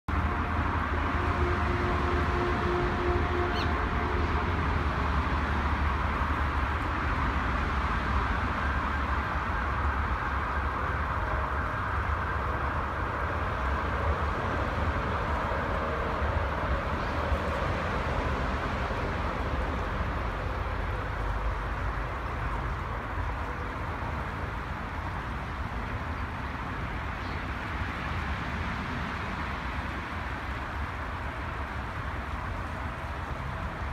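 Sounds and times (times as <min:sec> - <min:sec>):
river water rippling over stones: 0:00.1 - 0:33.9.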